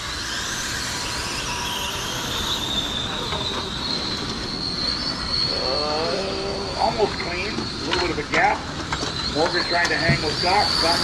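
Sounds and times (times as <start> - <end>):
rc car motors whining: 0.0 - 11.0.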